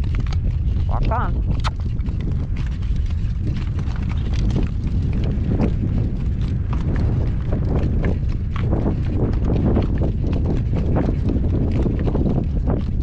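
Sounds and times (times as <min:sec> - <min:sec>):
horse hooves clip-clopping: 0:00.0 - 0:13.0
wind rumble on microphone: 0:00.0 - 0:13.0.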